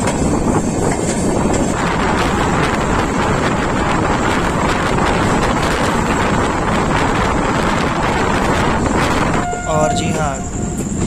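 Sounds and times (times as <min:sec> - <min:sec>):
moving train running noise: 0:00.0 - 0:11.0
wind on microphone: 0:00.0 - 0:11.0.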